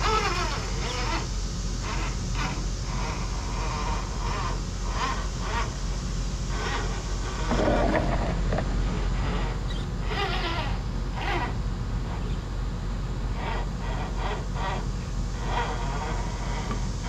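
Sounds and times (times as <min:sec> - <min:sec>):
electric motor whining: 0:00.0 - 0:12.5, 0:13.3 - 0:17.0
steady low hum: 0:00.0 - 0:17.0.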